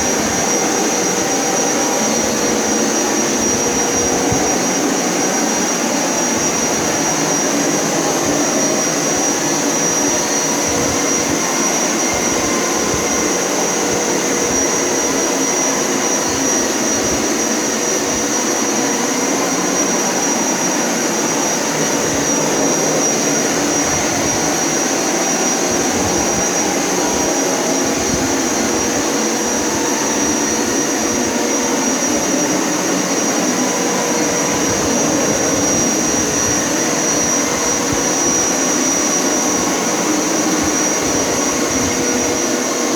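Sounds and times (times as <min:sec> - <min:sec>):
vacuum cleaner motor whining: 0:00.0 - 0:42.9.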